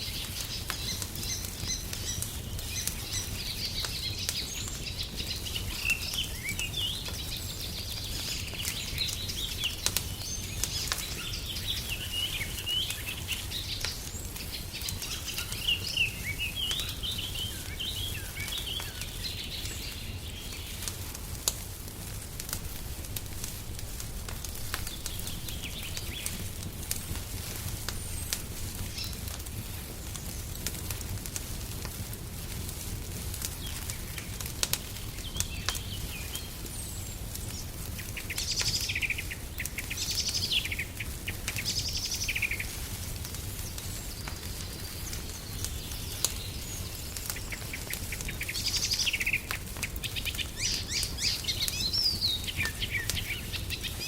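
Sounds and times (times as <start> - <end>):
songbirds singing: 0.0 - 21.7, 24.0 - 31.1, 33.4 - 54.0
wood fire crackling: 0.0 - 54.0.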